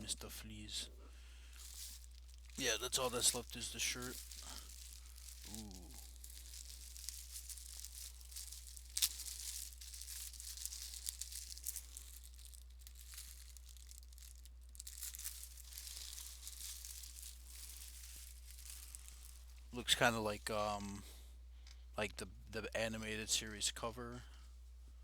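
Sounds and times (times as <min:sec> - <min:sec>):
plastic packaging crinkling: 0:01.2 - 0:21.8.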